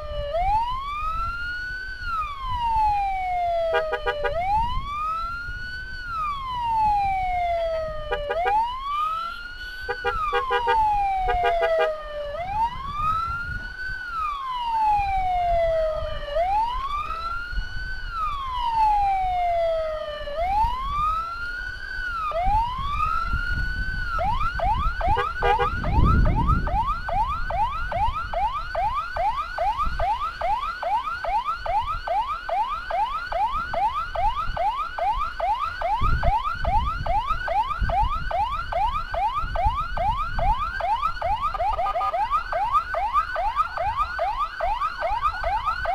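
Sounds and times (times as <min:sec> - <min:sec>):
ambulance siren wailing and yelping: 0:00.0 - 0:45.9
low road rumble: 0:00.0 - 0:45.9.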